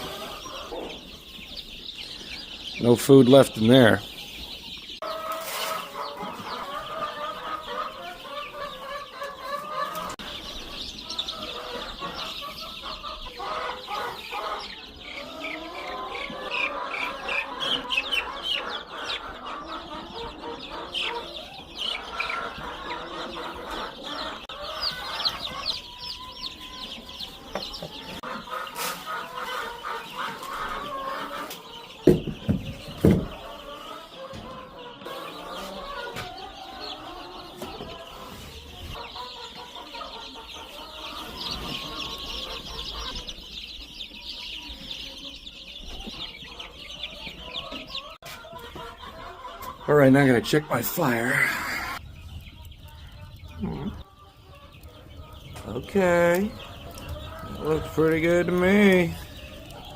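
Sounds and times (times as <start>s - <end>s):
baby chicks peeping: 0.0s - 59.9s
chickens clucking: 0.0s - 59.9s.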